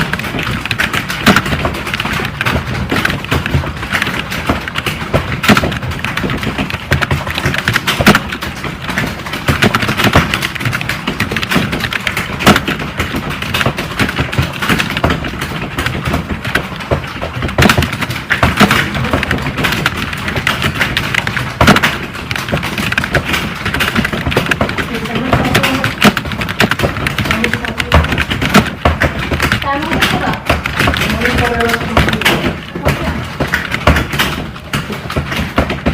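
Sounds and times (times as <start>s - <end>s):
computer keyboard typing: 0.0s - 35.9s.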